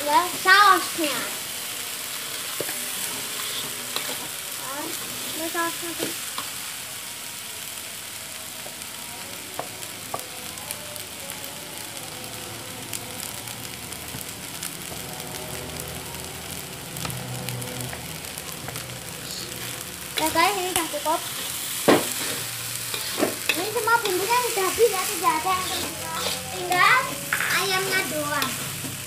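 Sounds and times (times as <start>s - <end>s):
rice sizzling in a wok: 0.0s - 29.0s.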